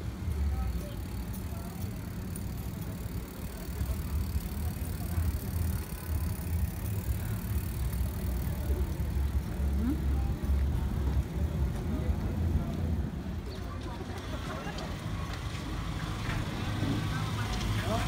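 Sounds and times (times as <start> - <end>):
people walking and cycling past: 0.0 - 18.0.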